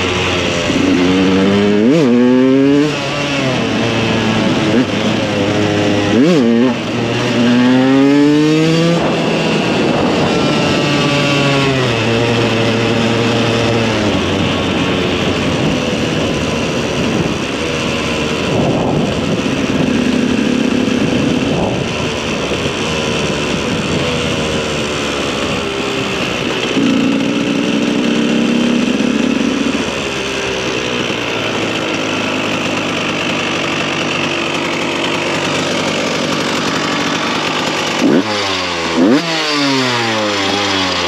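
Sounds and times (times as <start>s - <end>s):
two-stroke motorcycle engine revving: 0.0s - 41.0s.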